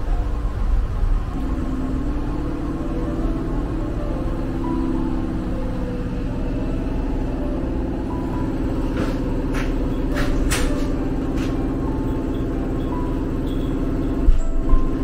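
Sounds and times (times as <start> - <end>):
electric train running hum: 0.0 - 15.0.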